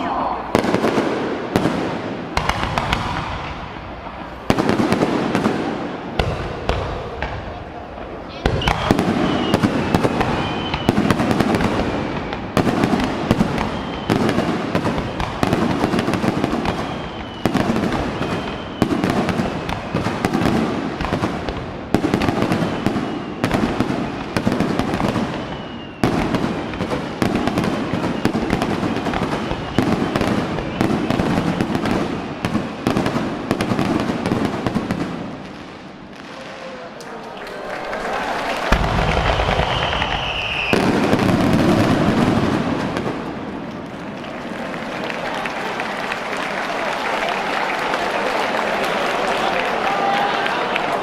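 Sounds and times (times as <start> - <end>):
fireworks bursting and crackling: 0.0 - 37.0, 38.2 - 51.0.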